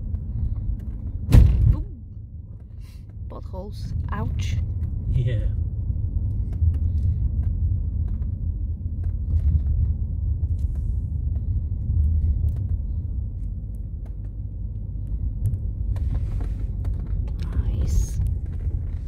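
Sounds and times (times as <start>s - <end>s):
car cabin tyre and engine rumble: 0.0s - 19.0s.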